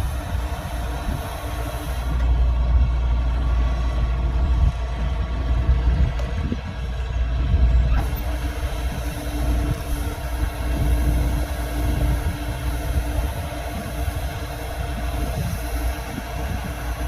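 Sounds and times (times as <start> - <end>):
diesel engine rumbling: 0.0 - 17.0
steady hum: 0.0 - 17.0.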